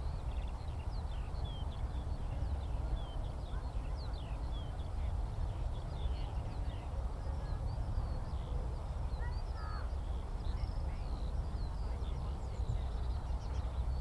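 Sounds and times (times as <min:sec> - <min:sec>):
skylark twittering song: 0:00.0 - 0:14.0.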